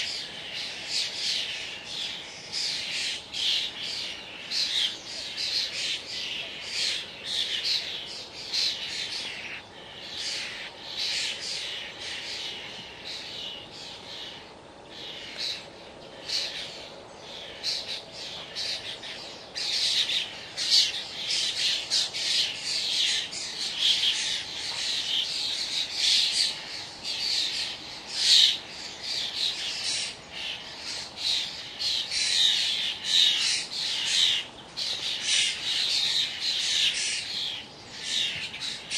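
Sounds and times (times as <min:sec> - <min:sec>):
starlings chattering and squawking: 0:00.0 - 0:38.9.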